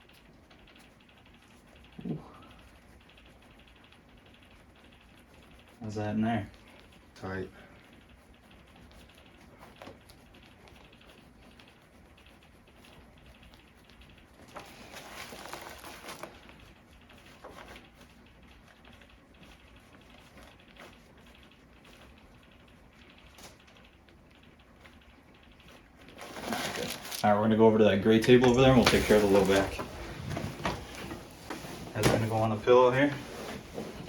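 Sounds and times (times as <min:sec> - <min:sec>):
faint rustling: 0:06.4 - 0:34.0.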